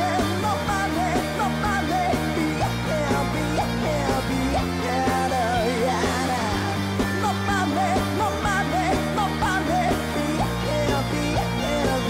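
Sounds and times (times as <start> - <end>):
electric guitar chords: 0.0 - 12.0
man singing: 0.0 - 12.0.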